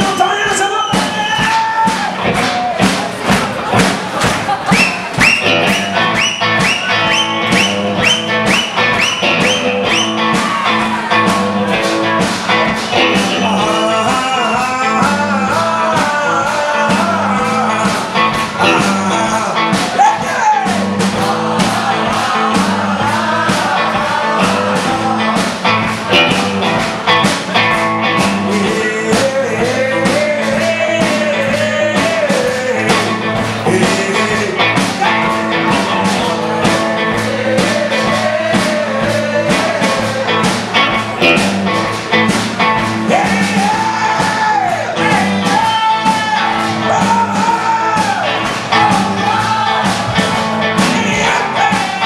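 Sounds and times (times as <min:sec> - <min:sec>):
drum kit beat: 0:00.0 - 0:52.0
electric guitar: 0:01.9 - 0:52.0
slapped upright bass: 0:02.0 - 0:52.0.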